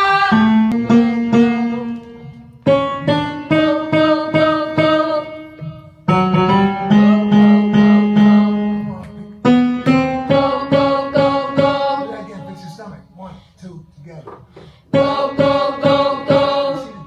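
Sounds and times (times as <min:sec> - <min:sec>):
piano playing repeated chords: 0:00.0 - 0:13.2, 0:14.9 - 0:17.0.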